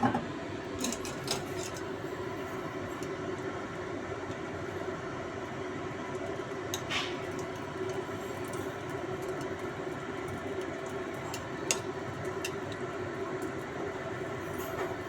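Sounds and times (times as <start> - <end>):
rushing kitchen background noise: 0.0 - 15.0.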